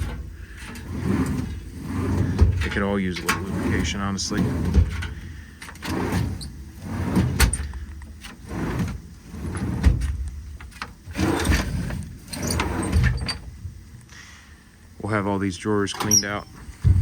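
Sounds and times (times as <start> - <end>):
metal drawer slides grinding: 0.0 - 13.7, 16.0 - 17.0.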